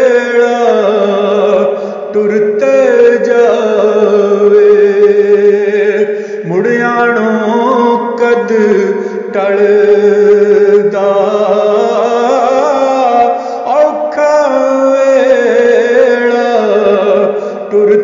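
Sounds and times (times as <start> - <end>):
man singing in chanting style: 0.0 - 18.0.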